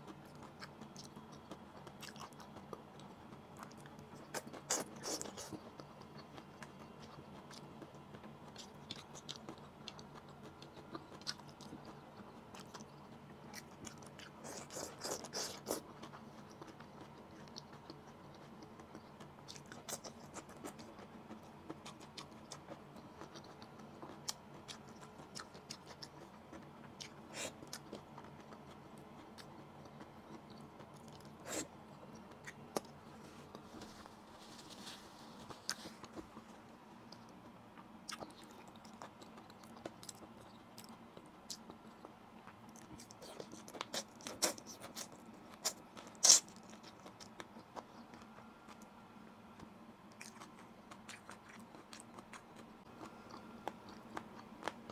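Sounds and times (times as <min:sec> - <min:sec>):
person chewing: 0:00.1 - 0:48.9, 0:50.1 - 0:54.9.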